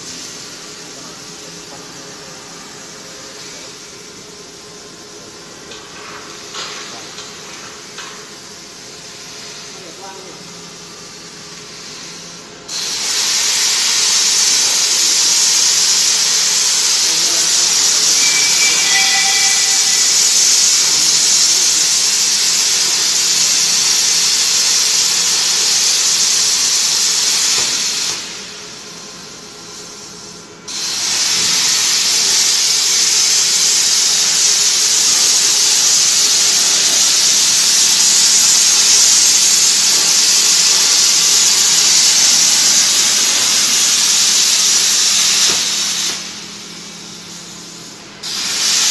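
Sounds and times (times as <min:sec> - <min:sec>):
plasma torch hissing: 0:00.0 - 0:48.9.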